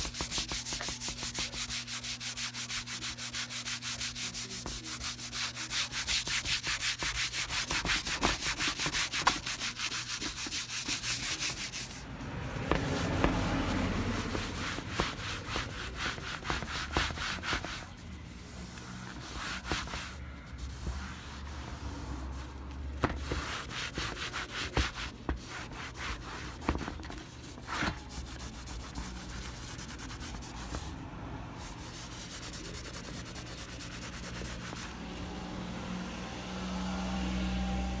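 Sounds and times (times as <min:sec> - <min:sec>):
paper towel wiping panel: 0:00.0 - 0:12.0, 0:12.6 - 0:31.0, 0:31.6 - 0:34.9.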